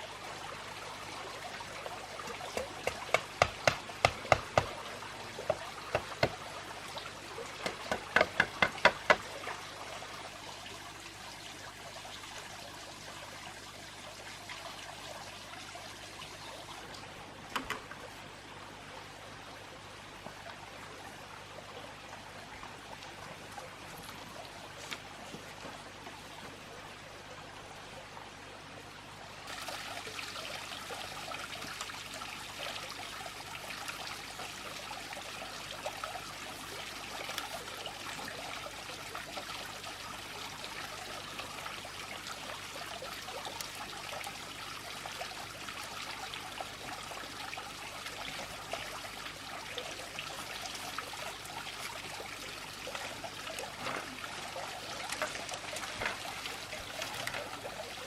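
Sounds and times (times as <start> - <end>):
running water trickling: 0.0 - 58.0.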